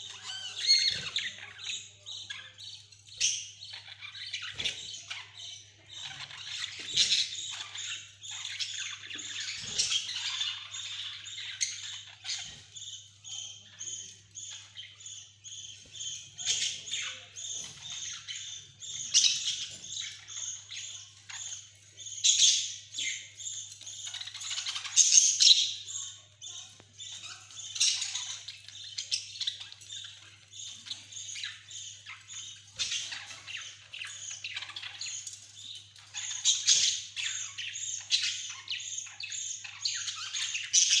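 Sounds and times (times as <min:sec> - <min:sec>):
budgies chattering and chirping: 0:00.0 - 0:41.0.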